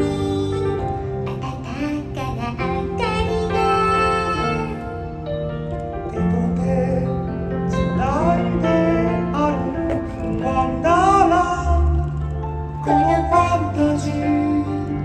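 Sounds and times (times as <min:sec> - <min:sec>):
instrumental backing: 0:00.0 - 0:15.0.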